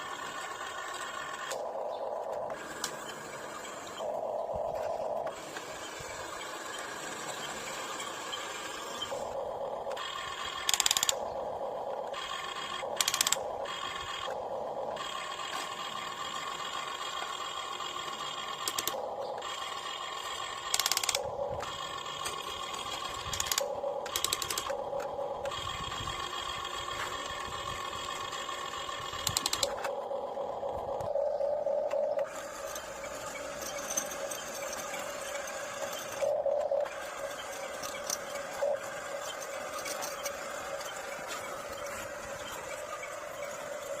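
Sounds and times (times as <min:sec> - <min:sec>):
electric motor and pump whining: 0:00.0 - 0:44.0.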